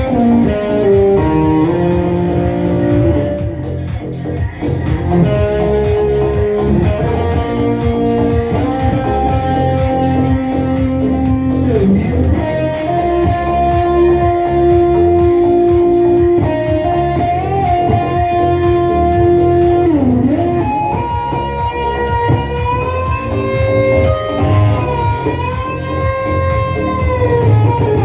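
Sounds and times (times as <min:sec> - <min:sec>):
electric guitar lead notes: 0:00.0 - 0:28.0
live band playing: 0:00.0 - 0:28.0.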